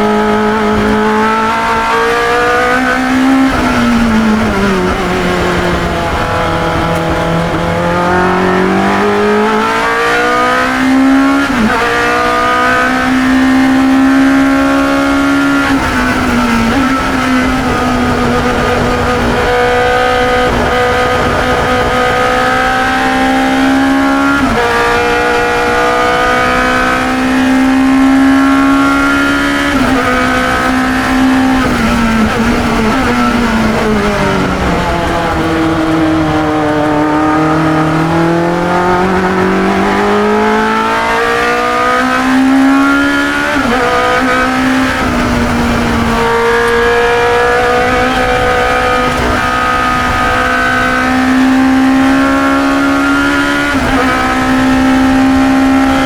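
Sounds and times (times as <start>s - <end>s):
racing engine accelerating: 0.0s - 56.0s.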